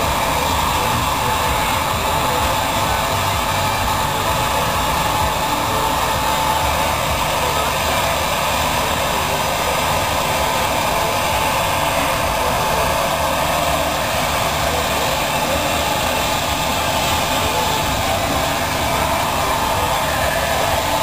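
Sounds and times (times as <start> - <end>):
electric air blower running: 0.0 - 21.0.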